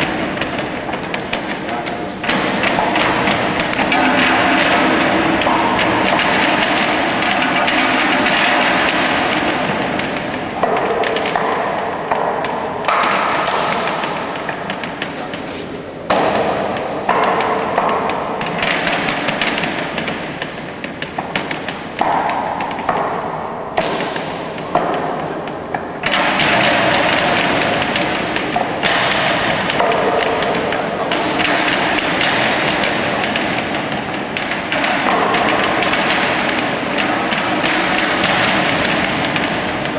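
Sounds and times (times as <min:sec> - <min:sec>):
wooden knocks and thuds: 0:00.0 - 0:39.9.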